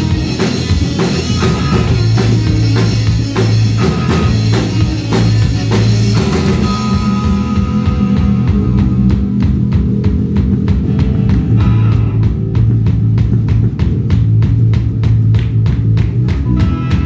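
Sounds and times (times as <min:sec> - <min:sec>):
drum kit beat: 0:00.0 - 0:17.0
heavy bass line: 0:00.0 - 0:17.0
rock band playing: 0:00.0 - 0:17.0.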